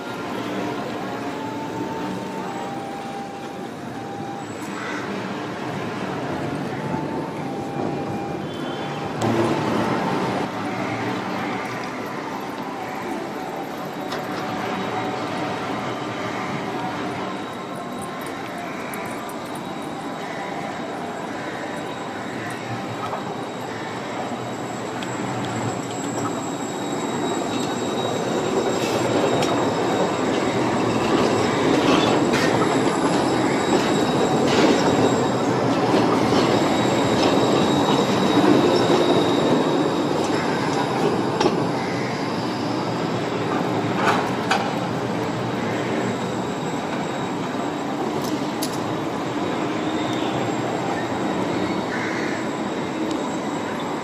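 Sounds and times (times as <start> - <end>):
high wheel squeal: 0.0 - 54.0
tram rolling on rails: 0.0 - 54.0.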